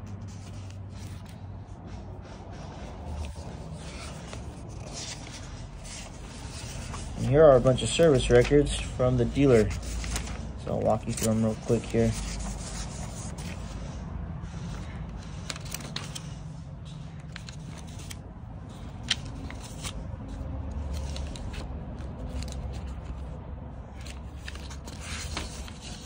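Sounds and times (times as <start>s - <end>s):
paper rustling: 2.6s - 26.0s.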